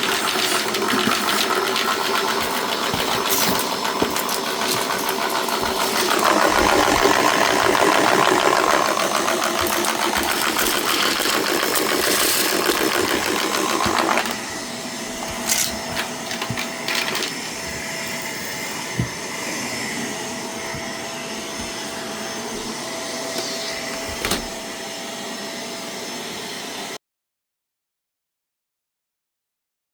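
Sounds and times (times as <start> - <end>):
vacuum cleaner motor whine: 0.0 - 27.0.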